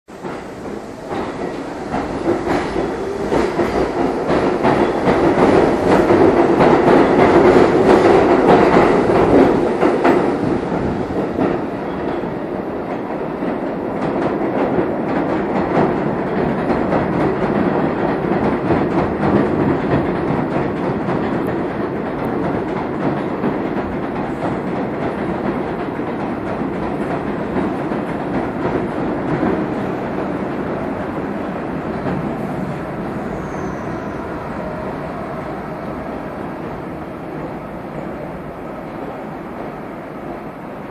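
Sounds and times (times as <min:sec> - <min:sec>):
train wheels rumbling on rails: 0:00.1 - 0:40.9.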